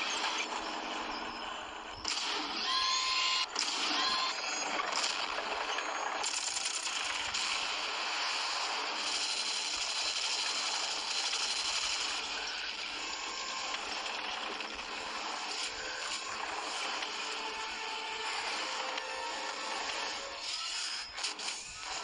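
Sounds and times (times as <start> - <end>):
toy tank motors whirring: 2.6 - 22.0.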